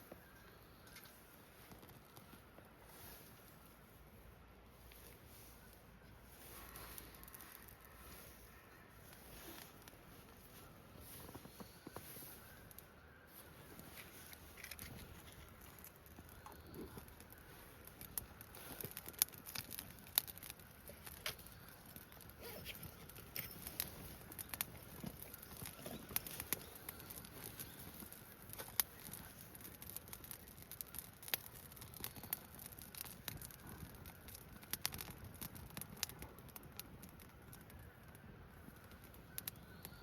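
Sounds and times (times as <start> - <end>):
campfire wood crackling: 0.0 - 40.0.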